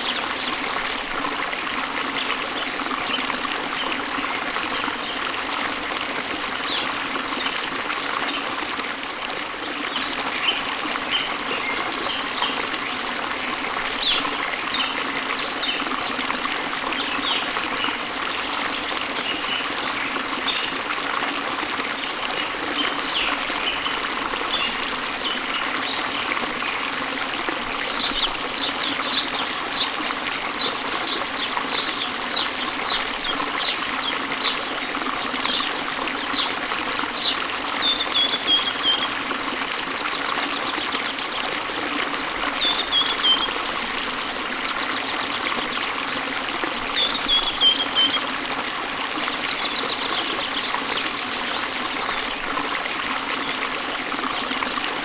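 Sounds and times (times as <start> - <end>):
waterfall running: 0.0 - 55.0.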